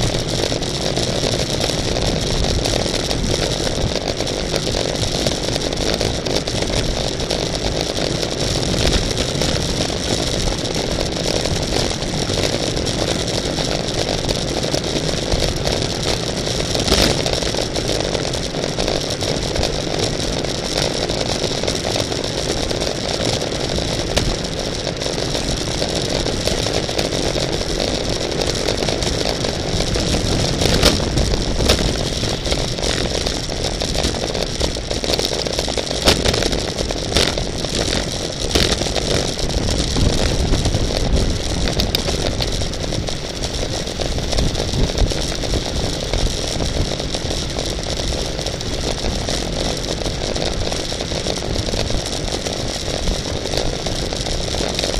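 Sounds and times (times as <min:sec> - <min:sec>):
bicycle rolling noise: 0:00.0 - 0:54.9
rushing wind: 0:00.0 - 0:54.9.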